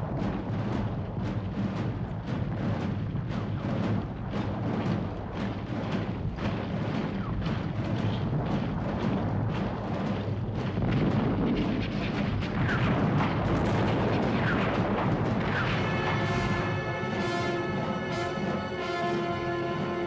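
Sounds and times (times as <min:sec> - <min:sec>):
steady low din: 0:00.0 - 0:20.0.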